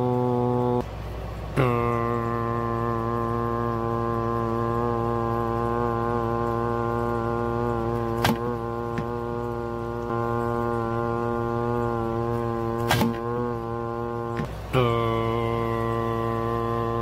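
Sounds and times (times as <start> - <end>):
low droning motor hum: 0.0 - 17.0.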